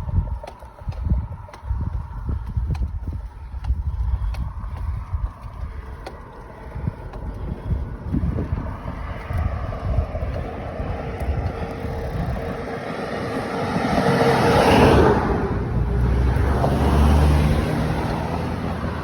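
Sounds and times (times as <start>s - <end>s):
car passing: 0.0s - 19.0s
low engine hum: 0.0s - 19.0s
wind buffeting microphone: 0.0s - 19.0s.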